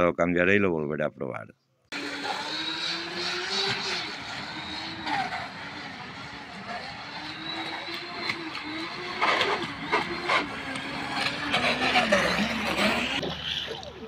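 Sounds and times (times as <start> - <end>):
electric motor whining: 1.9 - 13.7
water rushing off hull: 2.0 - 14.0.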